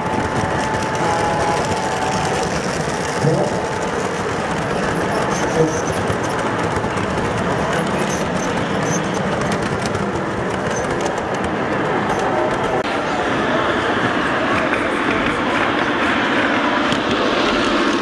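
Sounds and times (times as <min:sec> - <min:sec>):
model train wheels rumbling on rail: 0:00.0 - 0:18.0.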